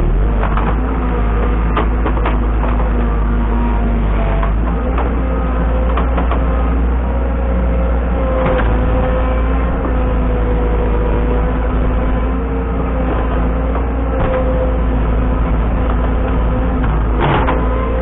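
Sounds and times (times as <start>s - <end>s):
heavy machine engine under load: 0.0s - 18.0s.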